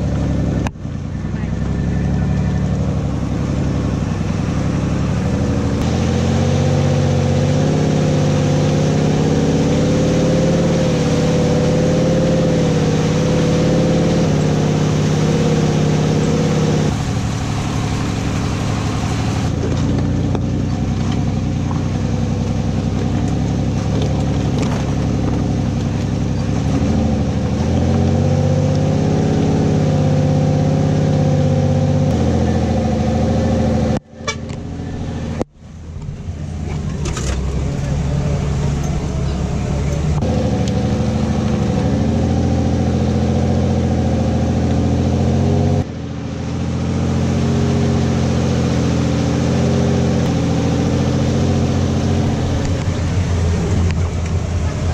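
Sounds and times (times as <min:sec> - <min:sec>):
vehicle engine running under load: 0:00.0 - 0:54.9.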